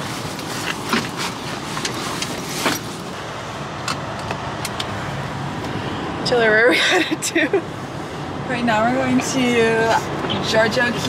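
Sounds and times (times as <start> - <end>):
car cabin noise: 0.0 - 11.0.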